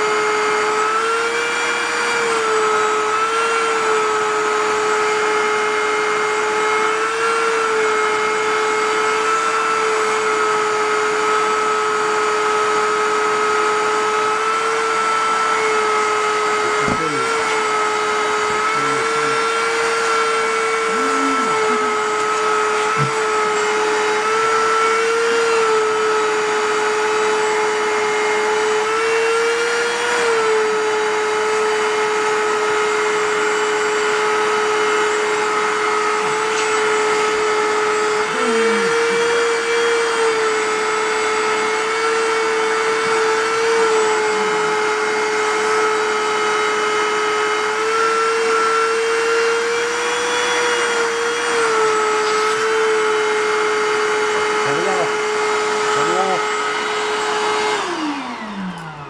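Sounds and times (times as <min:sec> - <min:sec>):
shop vacuum motor whining: 0:00.0 - 0:59.0.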